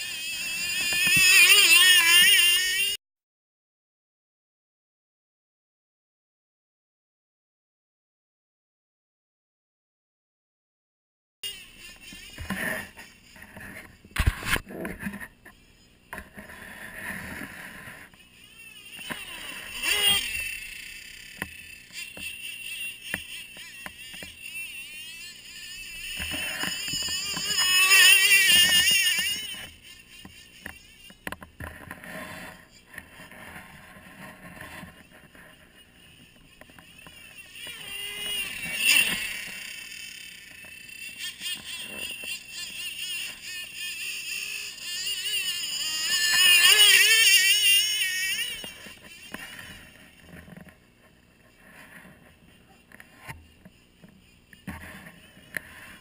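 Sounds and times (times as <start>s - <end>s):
model snowmobile motor whining: 0.0s - 3.0s, 11.4s - 56.0s.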